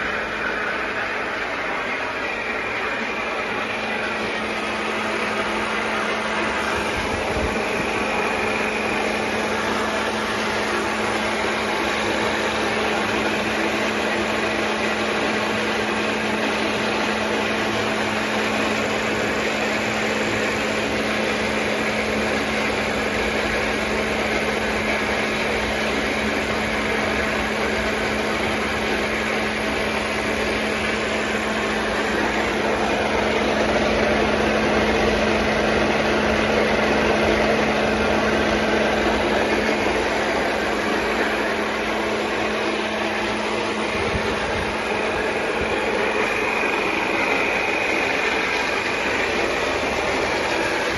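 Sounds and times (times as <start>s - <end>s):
pump motor humming: 0.0s - 50.9s.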